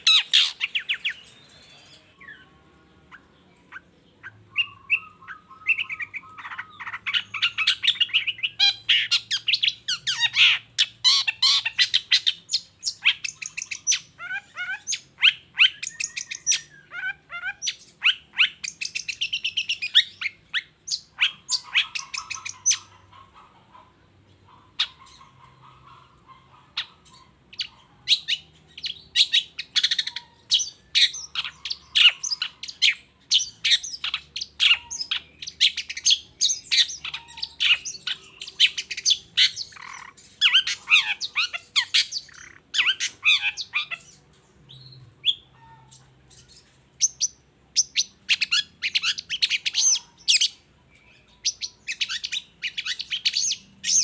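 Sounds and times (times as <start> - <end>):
bird singing fast chirps: 0.0 - 23.0, 26.8 - 54.0.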